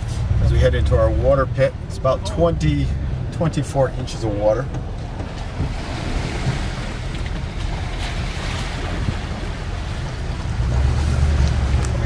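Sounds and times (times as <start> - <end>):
truck engine rumbling: 0.0 - 12.0
water rushing and sloshing: 0.0 - 12.0.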